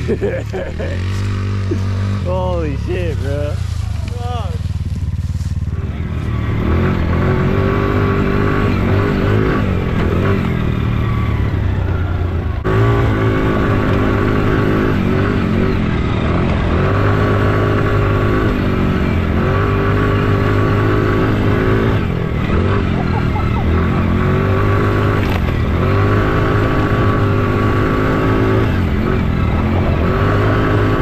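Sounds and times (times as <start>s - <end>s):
atv engine running hard: 0.0s - 31.0s.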